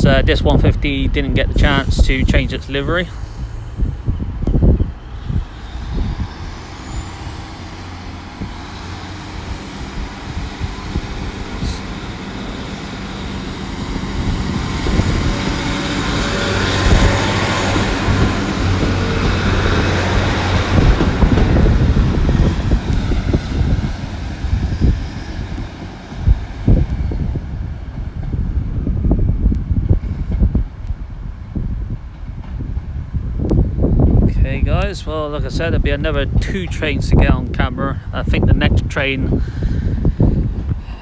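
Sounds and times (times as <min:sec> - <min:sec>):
diesel train engines humming: 0:00.0 - 0:41.0.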